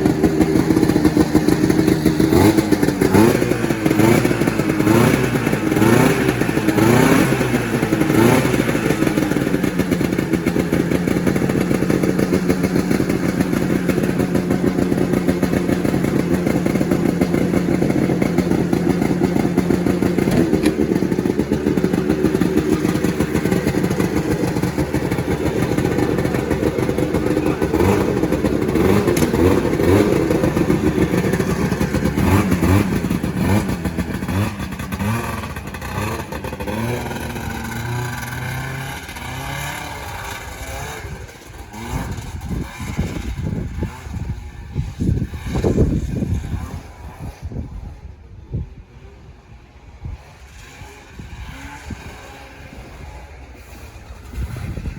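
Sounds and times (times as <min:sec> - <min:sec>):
two-stroke engine revving: 0:00.0 - 0:54.9.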